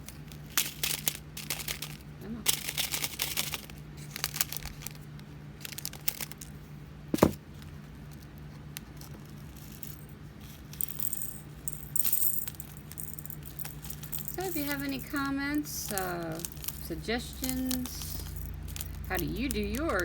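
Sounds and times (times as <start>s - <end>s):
plastic beads rattling and clicking: 0.1s - 5.0s, 5.6s - 6.6s, 9.0s - 20.0s.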